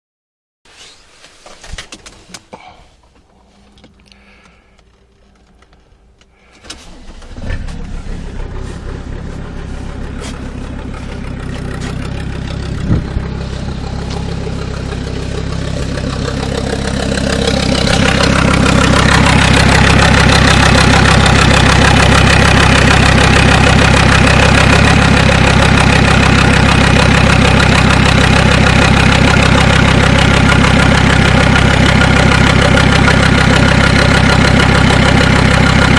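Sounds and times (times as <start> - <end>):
diesel engine cranking and starting: 3.1 - 35.9
diesel engine idling with knock: 6.6 - 35.9.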